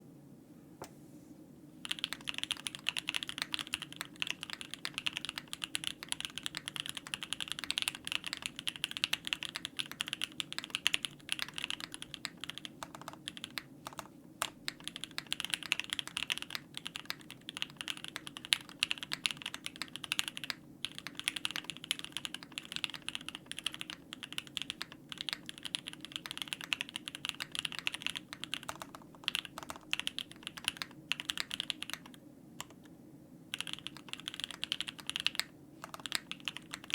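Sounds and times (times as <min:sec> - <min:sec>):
mechanical keyboard keystrokes clacking: 0:01.8 - 0:32.8, 0:33.6 - 0:36.9.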